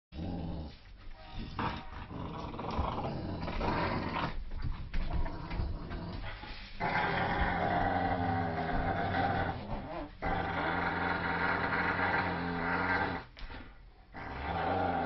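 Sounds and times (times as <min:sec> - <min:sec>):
dog growling in play: 0:00.2 - 0:15.0.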